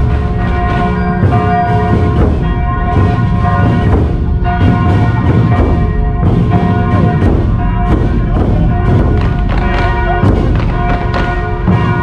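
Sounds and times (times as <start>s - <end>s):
church bells ringing: 0.0s - 12.0s
heavy drums beating: 0.0s - 12.0s.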